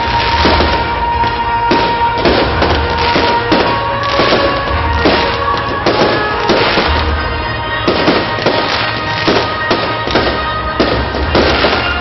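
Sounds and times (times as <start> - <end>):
fireworks bursting bangs: 0.0 - 12.0
music playing: 0.0 - 12.0.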